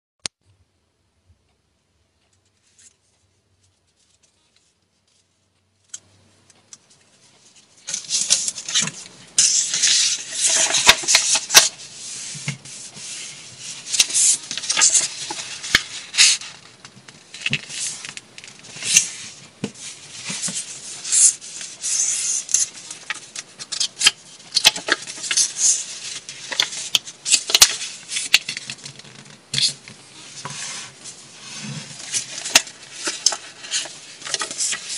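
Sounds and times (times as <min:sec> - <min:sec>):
rustling and scraping: 0:02.2 - 0:06.1, 0:06.8 - 0:34.9.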